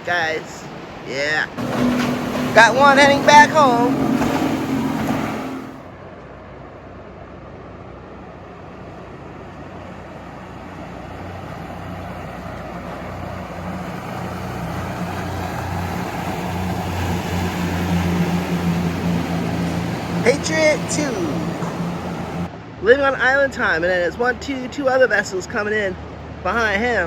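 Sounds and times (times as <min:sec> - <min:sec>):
motorboat engines droning: 0:00.0 - 0:27.0.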